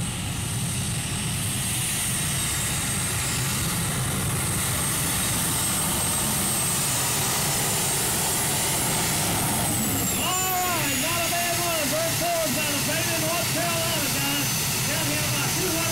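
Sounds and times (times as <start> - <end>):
tractor engine at full throttle: 0.0 - 15.9.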